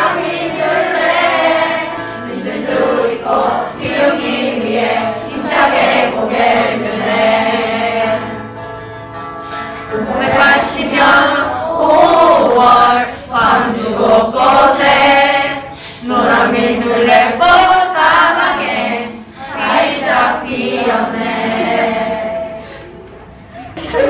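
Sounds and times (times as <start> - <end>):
choir singing: 0.0 - 8.6, 9.9 - 22.8.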